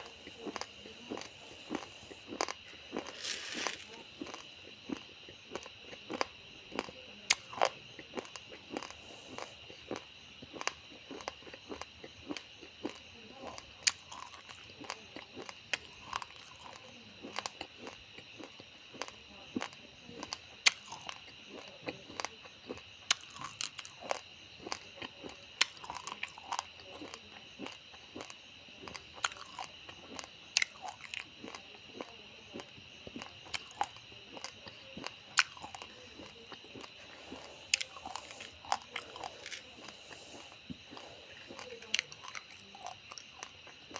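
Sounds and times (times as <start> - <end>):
raw rice being chewed: 0.0 - 43.9.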